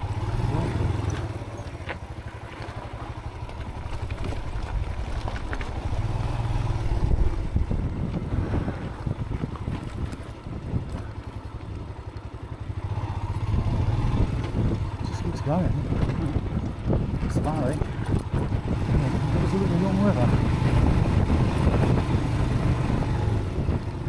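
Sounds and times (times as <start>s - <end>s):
motorcycle engine running: 0.0s - 24.0s
wind buffeting microphone: 3.7s - 12.0s, 12.7s - 24.0s.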